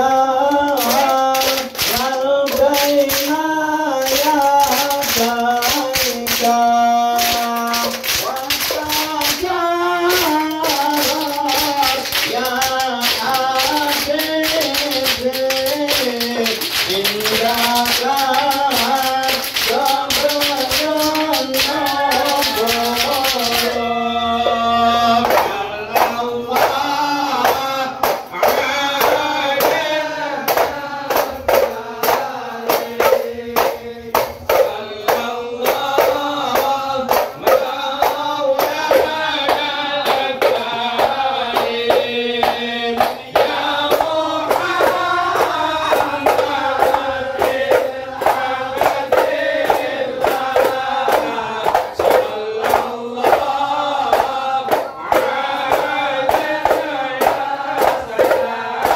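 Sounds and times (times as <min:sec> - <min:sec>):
frame drums: 0:00.0 - 0:58.9
hand claps: 0:00.0 - 0:58.9
men chanting together: 0:00.0 - 0:58.9.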